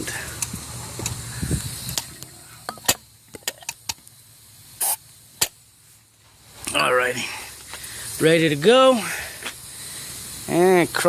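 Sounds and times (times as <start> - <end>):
aerosol spray hiss: 0.0 - 11.0.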